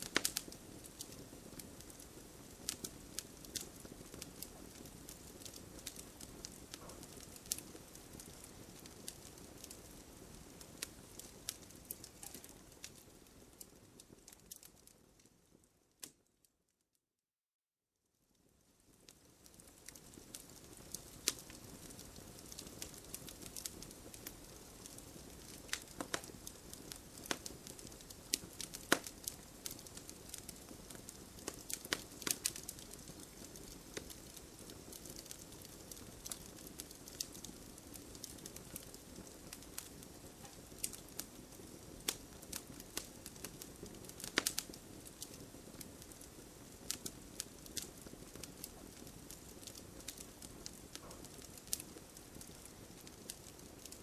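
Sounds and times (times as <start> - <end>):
wood fire crackling: 0.0 - 16.4, 18.3 - 54.0.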